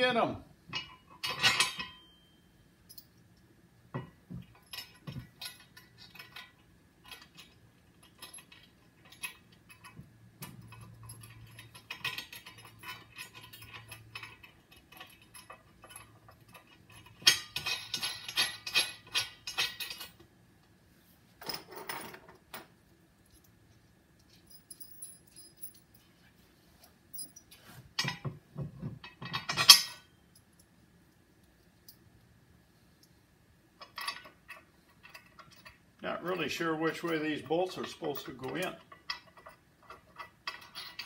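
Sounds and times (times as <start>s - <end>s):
nuts and bolts clinking on metal: 0.7s - 20.3s, 21.4s - 26.2s, 26.8s - 32.2s, 33.0s - 41.0s.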